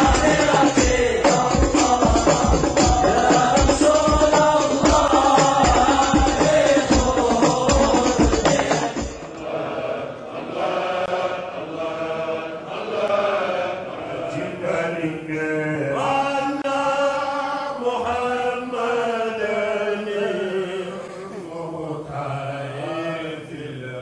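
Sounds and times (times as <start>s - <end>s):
men chanting through microphones: 0.0s - 24.0s.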